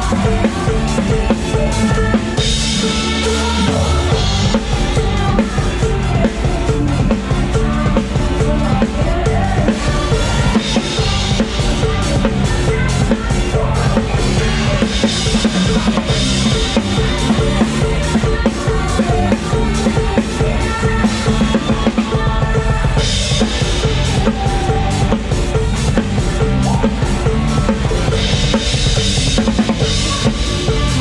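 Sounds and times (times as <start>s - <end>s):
live band music: 0.0s - 31.0s.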